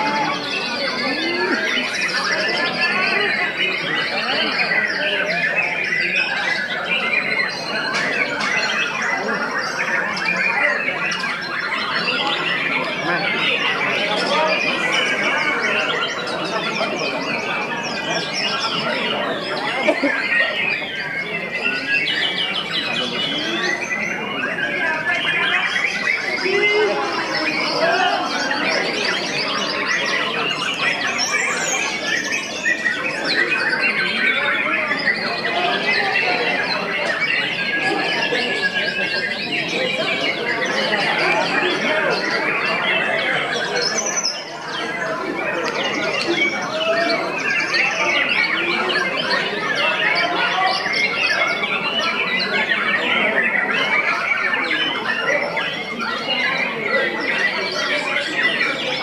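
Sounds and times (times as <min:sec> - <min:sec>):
birds singing in chorus: 0:00.0 - 0:59.0.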